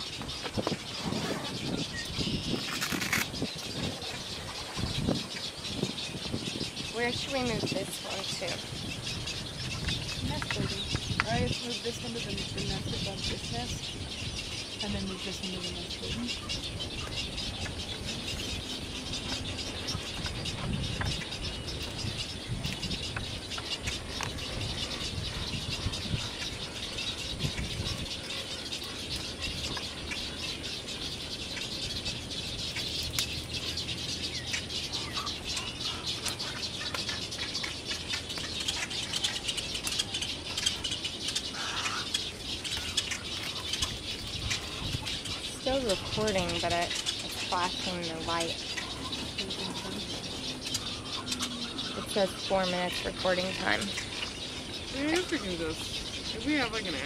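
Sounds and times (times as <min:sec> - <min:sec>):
waterbird colony chatter: 0:00.0 - 0:57.0.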